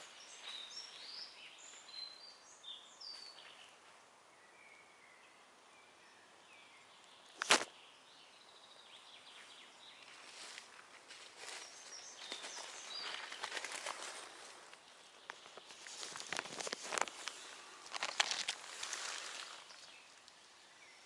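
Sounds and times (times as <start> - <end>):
songbirds chirping and whistling: 0.0 - 21.0.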